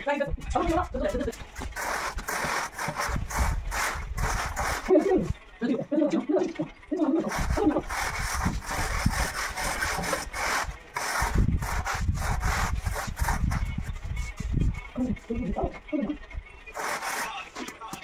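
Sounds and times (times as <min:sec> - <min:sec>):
hand tool scraping mortar: 0:00.6 - 0:05.4, 0:06.3 - 0:15.5, 0:16.7 - 0:18.0.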